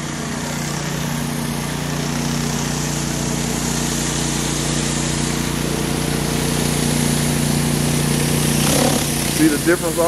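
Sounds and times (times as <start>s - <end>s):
pressure washer engine running: 0.0s - 10.0s
water spraying onto concrete: 0.0s - 10.0s.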